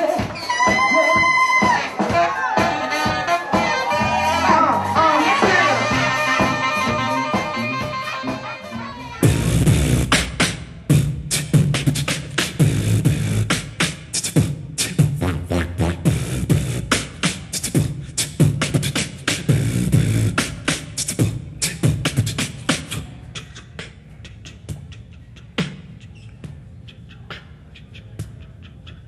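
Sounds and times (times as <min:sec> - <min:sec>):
beatboxing: 0:00.0 - 0:29.0.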